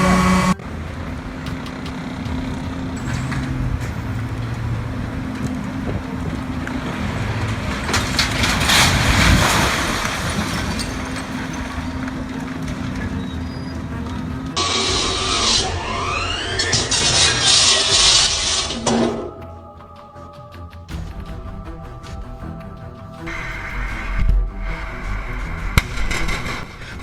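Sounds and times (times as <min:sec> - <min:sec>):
road noise: 0:00.0 - 0:27.0
vehicle engine hum: 0:00.0 - 0:27.0.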